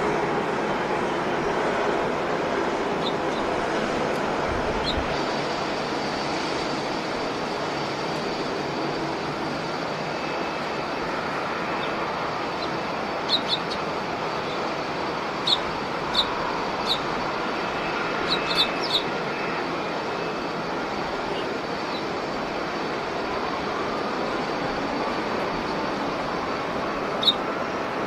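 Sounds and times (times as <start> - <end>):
distant jet engines roaring: 0.0 - 28.0
thin high whine: 2.5 - 28.0.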